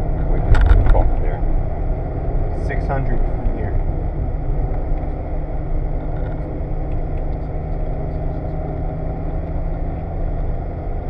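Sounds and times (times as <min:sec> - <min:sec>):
car engine pulling hard: 0:00.0 - 0:11.0
road and tyre noise: 0:00.0 - 0:11.0.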